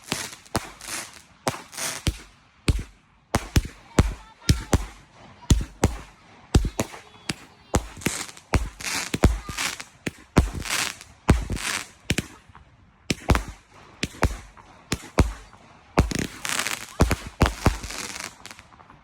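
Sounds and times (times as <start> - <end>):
crackling hiss: 0.0 - 12.5, 13.1 - 18.8
fireworks bangs: 0.0 - 18.8.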